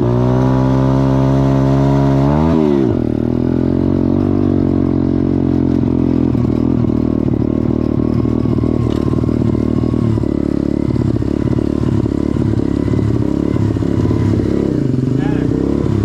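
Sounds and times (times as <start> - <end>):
motorbike engine running: 0.0 - 16.0.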